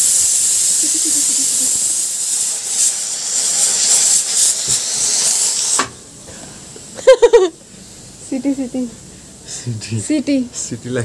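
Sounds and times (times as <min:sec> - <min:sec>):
pressure cooker steam hiss: 0:00.0 - 0:11.0.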